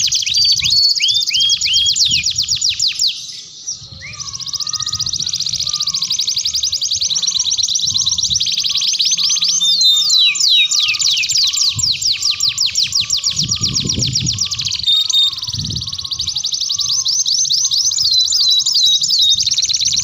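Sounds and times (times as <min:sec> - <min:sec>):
canary song trills: 0:00.0 - 0:20.0.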